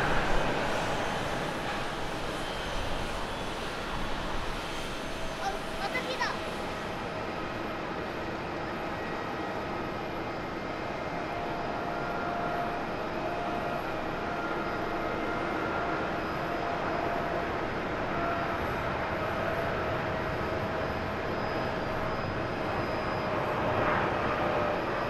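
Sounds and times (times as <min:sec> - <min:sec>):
jet engines on takeoff roll: 0:00.0 - 0:25.0.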